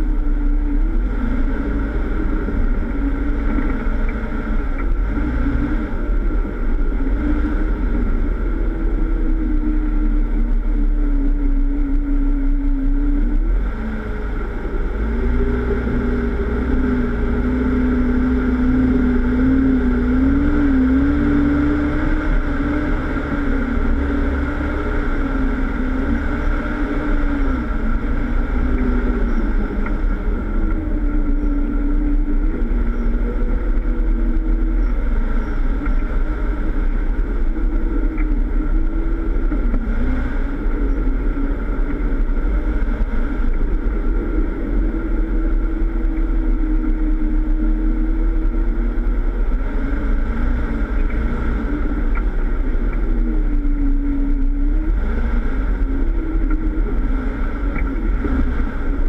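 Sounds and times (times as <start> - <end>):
engine pulling at low revs: 0.0 - 59.0.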